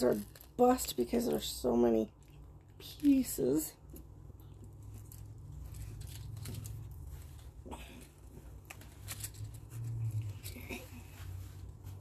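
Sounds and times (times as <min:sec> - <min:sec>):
metal necklace clicking and rustling: 0:00.0 - 0:01.4, 0:02.1 - 0:10.9.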